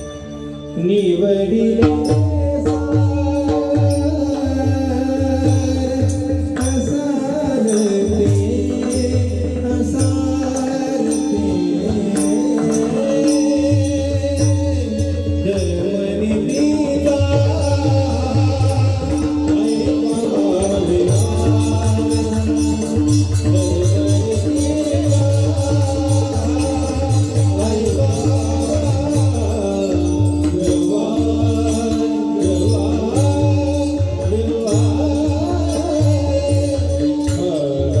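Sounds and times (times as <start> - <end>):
fast metallic percussion: 0.0 - 38.0
man singing devotional song: 0.0 - 38.0.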